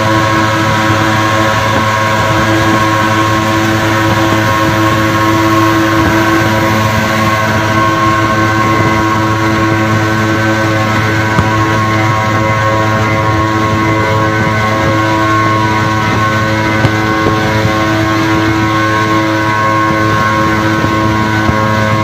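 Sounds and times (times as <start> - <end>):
pickup engines droning: 0.0 - 22.0
road noise: 0.0 - 22.0
wind noise: 0.0 - 22.0.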